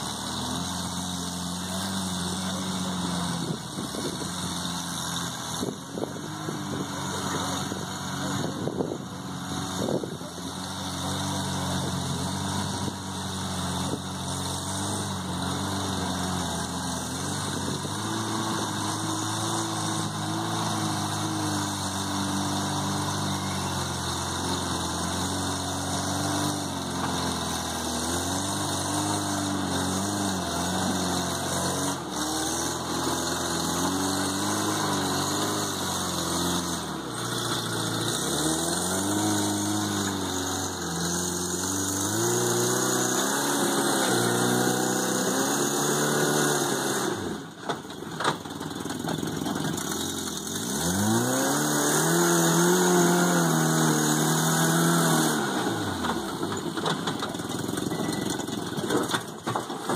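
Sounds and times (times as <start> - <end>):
engine revving at low revs: 0.0 - 59.9.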